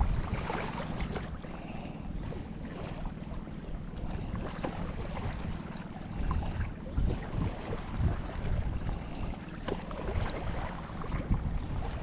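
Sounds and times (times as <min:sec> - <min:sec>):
wind buffeting microphone: 0:00.0 - 0:01.5, 0:02.1 - 0:12.0
surf: 0:00.0 - 0:12.0.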